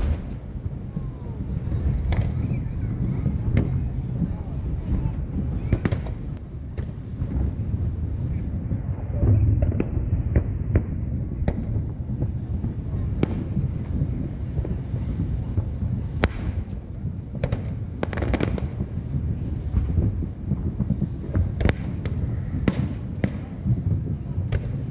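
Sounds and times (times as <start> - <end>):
crackling fireworks reports: 0.0 - 24.9
fireworks bangs: 0.0 - 24.9
steady low rumble: 0.0 - 24.9.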